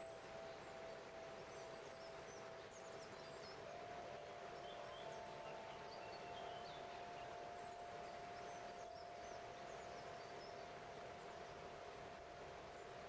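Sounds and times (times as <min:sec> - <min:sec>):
faint high bird chirps: 0:00.0 - 0:11.8
singing bowl ringing tone: 0:00.0 - 0:13.0.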